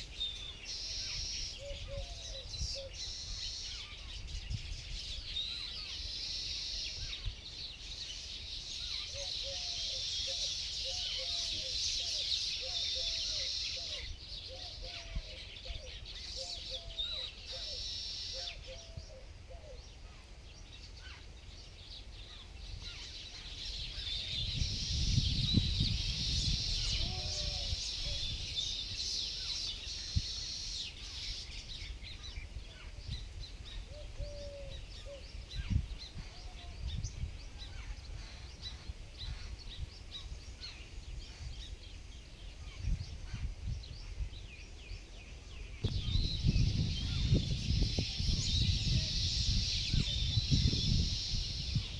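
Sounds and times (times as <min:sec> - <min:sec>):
wild birds chirping: 0:00.0 - 0:51.9.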